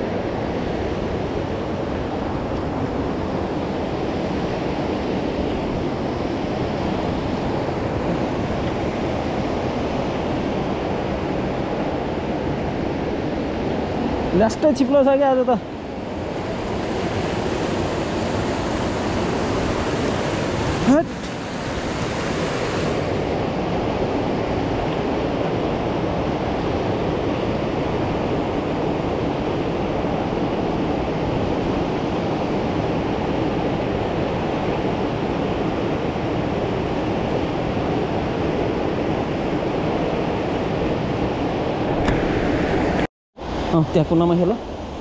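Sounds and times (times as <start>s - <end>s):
river rushing through rapids: 0.0s - 45.0s.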